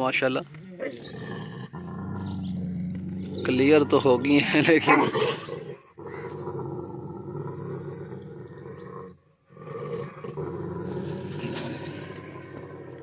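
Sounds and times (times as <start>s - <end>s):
dog growling: 0.4s - 13.0s.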